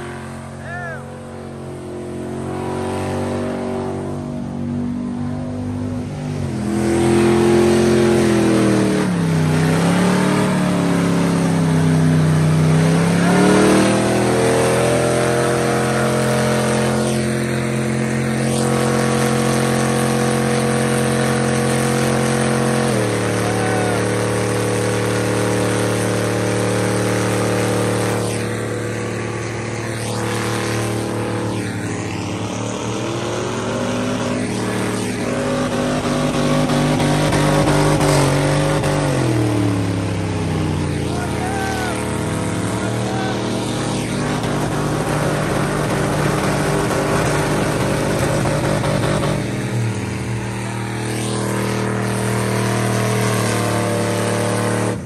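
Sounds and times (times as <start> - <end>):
car engine and exhaust running: 0.0 - 55.0.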